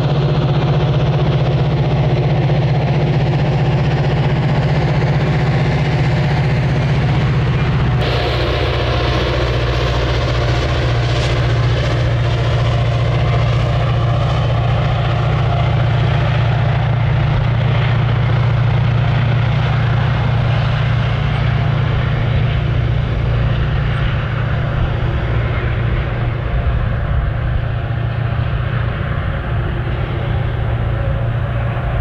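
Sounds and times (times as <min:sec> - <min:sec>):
diesel locomotive engine drone: 0:00.0 - 0:32.0
train cars rumbling on rails: 0:00.0 - 0:32.0.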